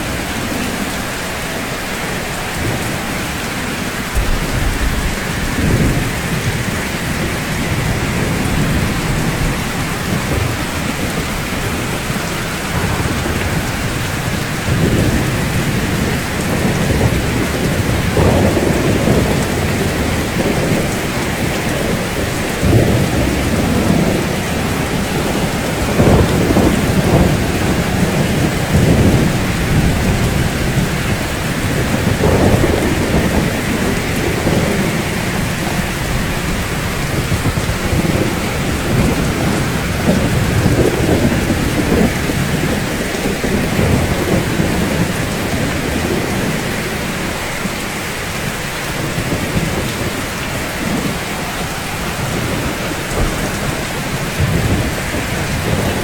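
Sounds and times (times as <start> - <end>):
heavy rainfall: 0.0 - 56.0
rolling thunder: 0.0 - 56.0.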